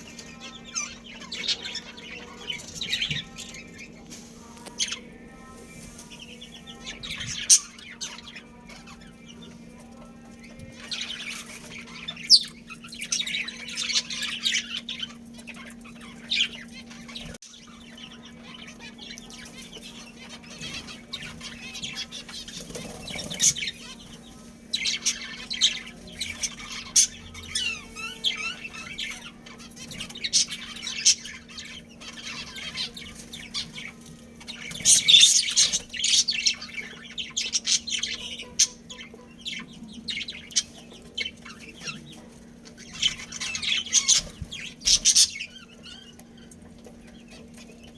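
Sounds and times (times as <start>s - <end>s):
budgerigars chirping and chattering: 0.0s - 47.9s.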